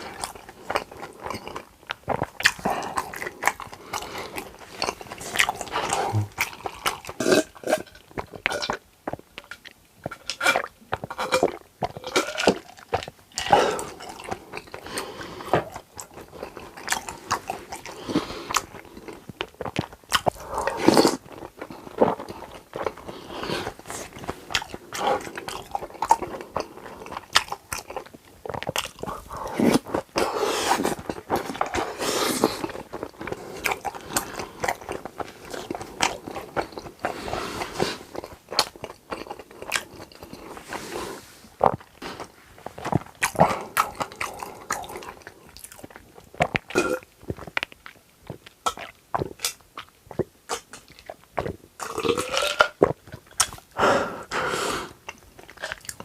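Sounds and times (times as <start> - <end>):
crunchy chewing of food: 0.0 - 56.0.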